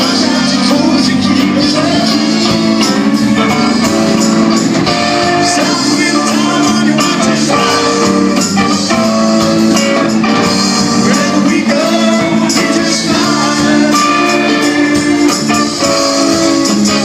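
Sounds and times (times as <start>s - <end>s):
person singing: 0.0s - 8.7s, 9.6s - 17.0s
band playing live: 0.0s - 17.0s.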